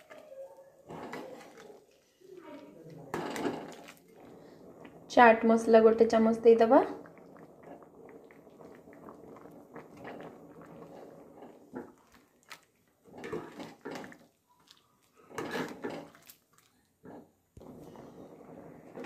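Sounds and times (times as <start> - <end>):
spoon stirring curry in pan: 0.8 - 5.1, 6.9 - 19.0.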